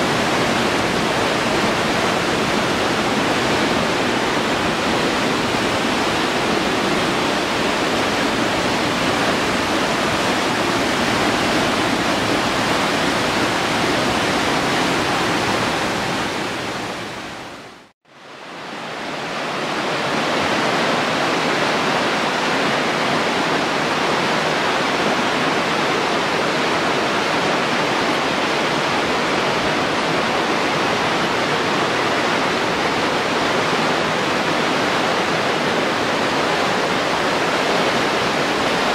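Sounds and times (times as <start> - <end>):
river water roaring: 0.0 - 38.9.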